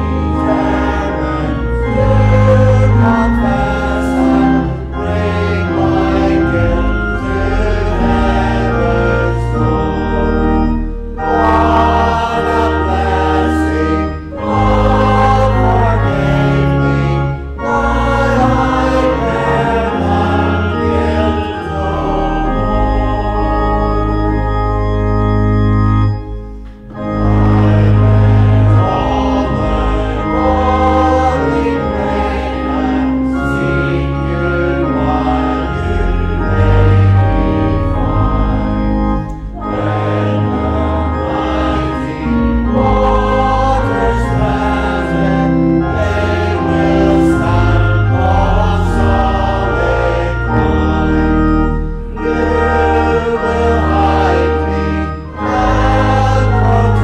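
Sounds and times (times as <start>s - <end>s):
congregation singing a hymn: 0.0s - 57.0s
organ: 0.0s - 57.0s.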